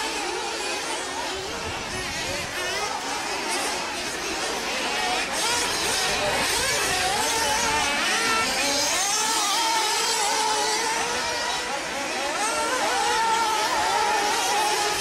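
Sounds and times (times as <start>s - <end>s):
rc car motors whining: 0.0s - 15.0s.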